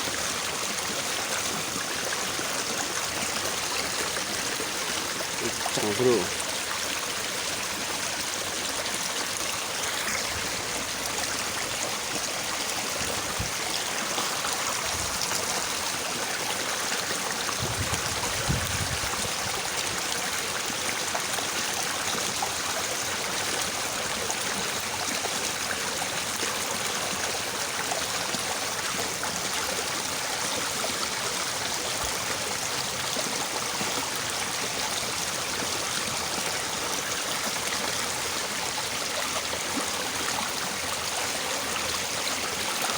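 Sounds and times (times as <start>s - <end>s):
river babbling and rushing: 0.0s - 42.9s.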